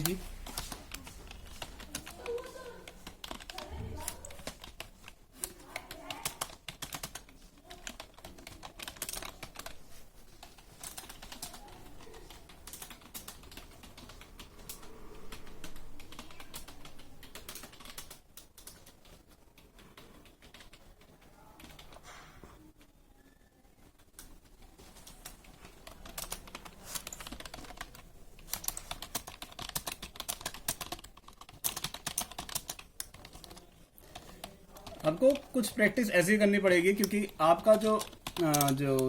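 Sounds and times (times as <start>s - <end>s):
fast typing on keyboard: 0.0s - 22.1s, 24.0s - 39.0s.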